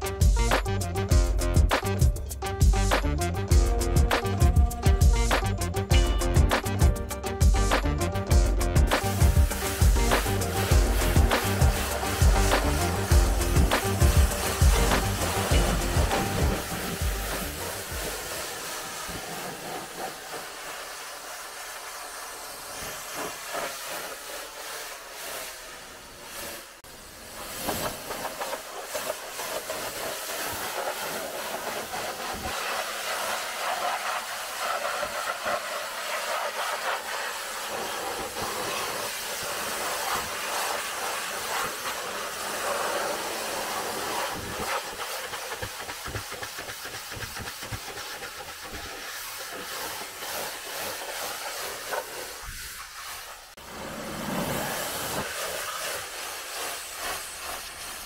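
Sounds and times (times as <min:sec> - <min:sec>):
pressure washer spraying car: 0:00.0 - 0:58.0.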